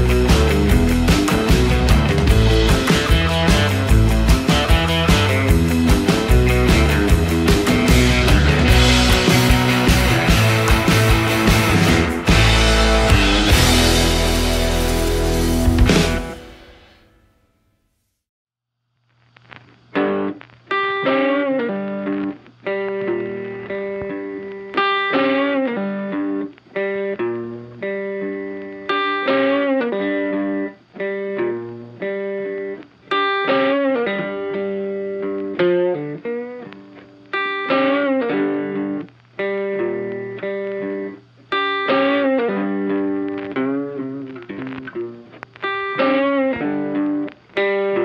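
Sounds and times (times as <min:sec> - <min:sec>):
funky electric guitar riff: 0:00.0 - 0:17.0, 0:19.4 - 0:48.0.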